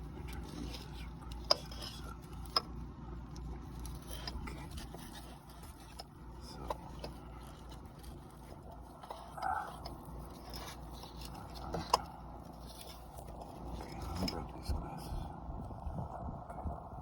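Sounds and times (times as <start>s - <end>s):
scraping: 0.0s - 16.2s
low steady hum: 0.0s - 17.0s.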